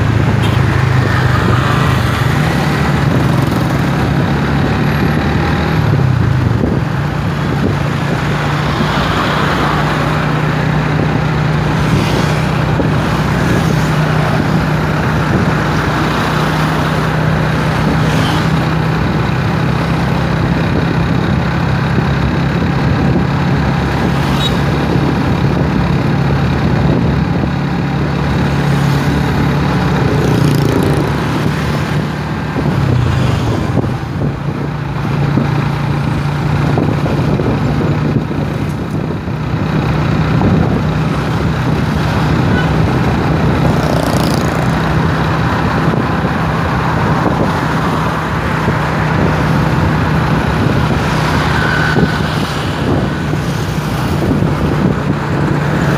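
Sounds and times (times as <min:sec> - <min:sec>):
passing traffic: 0:00.0 - 0:55.9
wind and road noise: 0:00.0 - 0:55.9
motorcycle engine running: 0:09.5 - 0:55.9.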